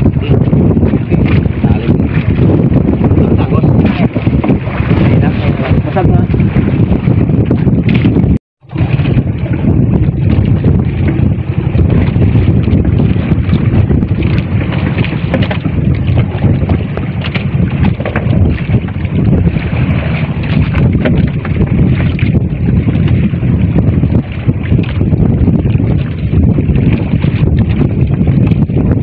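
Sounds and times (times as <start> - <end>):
water rushing along boat hull: 0.0 - 29.0
wind buffeting microphone: 0.0 - 29.0.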